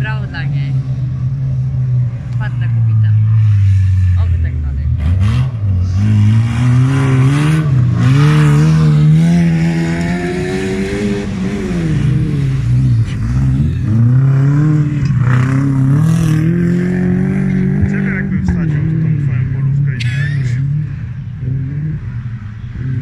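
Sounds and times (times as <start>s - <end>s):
car engines revving hard: 0.0s - 23.0s.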